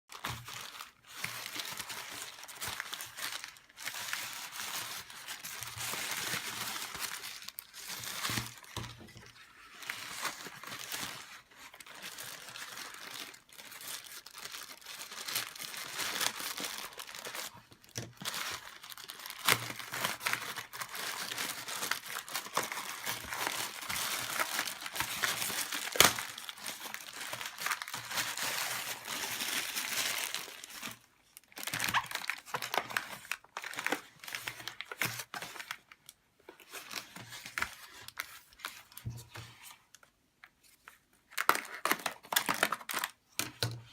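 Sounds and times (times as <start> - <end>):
plastic packaging crinkling and tearing: 0.1 - 43.9.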